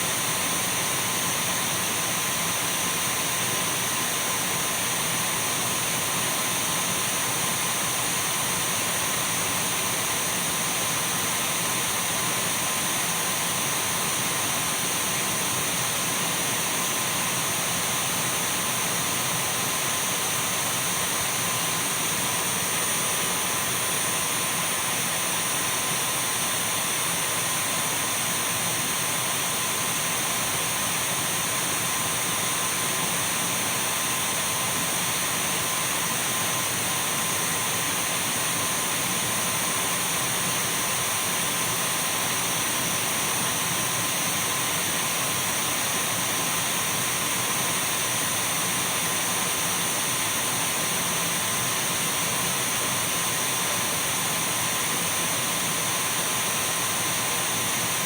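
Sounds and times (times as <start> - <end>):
cordless vacuum cleaner running: 0.0 - 58.0.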